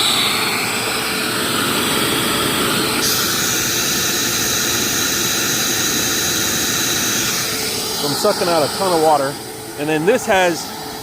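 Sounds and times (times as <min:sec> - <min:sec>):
vacuum motors whining: 0:00.0 - 0:11.0.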